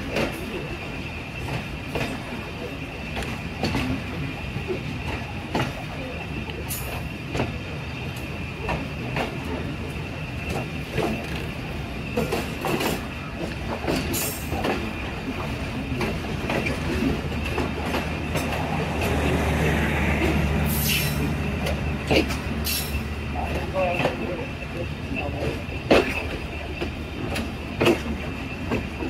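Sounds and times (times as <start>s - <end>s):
train rumbling on track: 0.0s - 29.0s
wheels clacking over rail joints: 0.0s - 29.0s.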